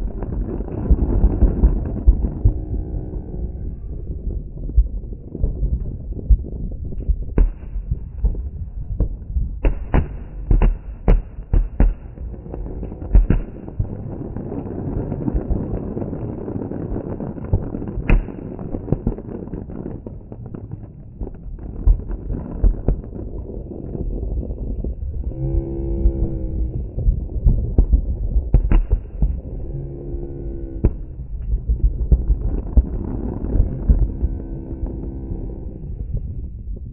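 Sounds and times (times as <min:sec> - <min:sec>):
fireworks exploding: 0:00.0 - 0:03.2, 0:04.0 - 0:25.2, 0:27.0 - 0:29.7, 0:30.5 - 0:35.1
steady low rumble: 0:00.0 - 0:36.9.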